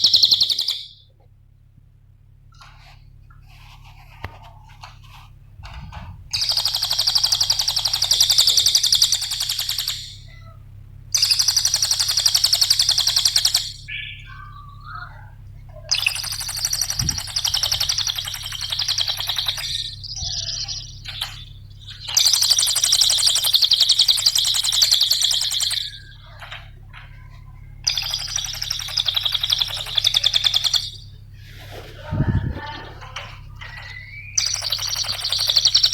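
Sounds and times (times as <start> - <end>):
songbird chattering: 0.0 - 1.0, 6.3 - 35.9
faint low hum: 0.0 - 35.9.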